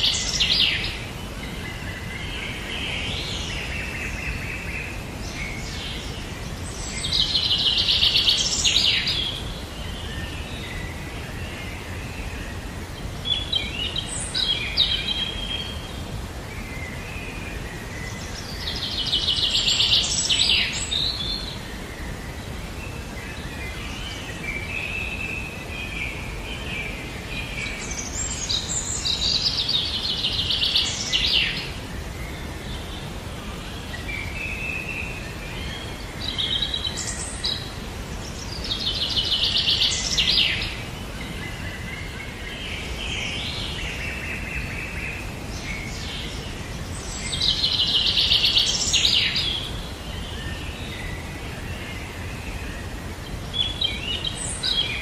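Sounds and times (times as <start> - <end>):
songbirds singing trilled song: 0.0 - 55.0
steady background hiss: 0.0 - 55.0.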